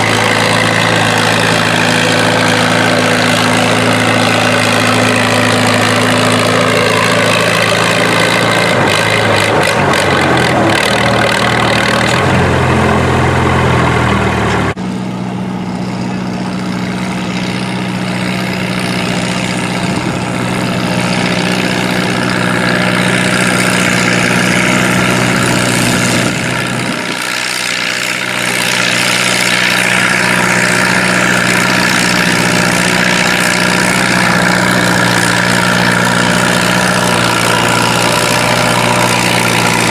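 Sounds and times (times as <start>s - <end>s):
engine running steadily: 0.0s - 39.9s
tractor engine running under load: 0.0s - 39.9s.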